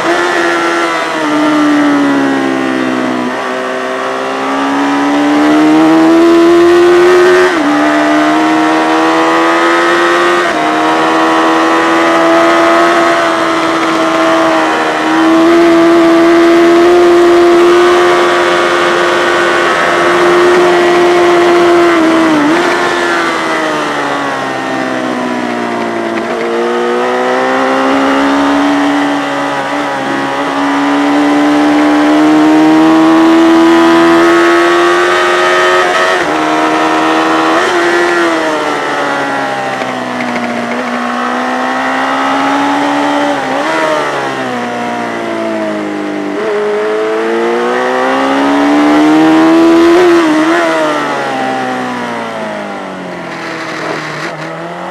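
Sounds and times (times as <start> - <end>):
racing engine revving: 0.0 - 54.9.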